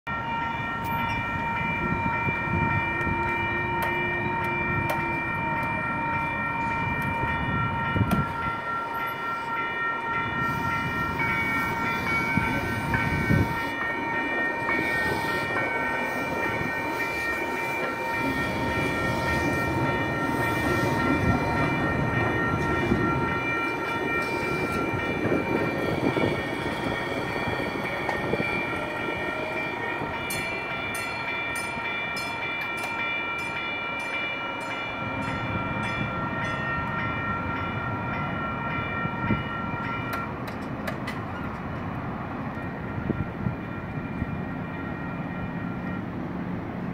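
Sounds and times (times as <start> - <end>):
electronic crossing bells ringing: 0.1 - 40.5, 41.3 - 46.9
train wheel and track noise: 0.1 - 46.9.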